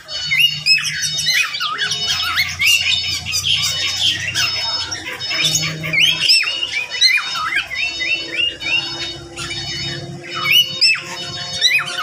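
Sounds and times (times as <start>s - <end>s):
small birds chattering and squawking: 0.0s - 12.0s.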